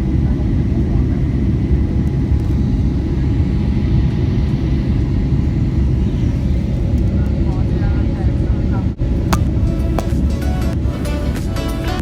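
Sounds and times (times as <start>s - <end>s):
airliner cabin rumble: 0.0s - 11.5s.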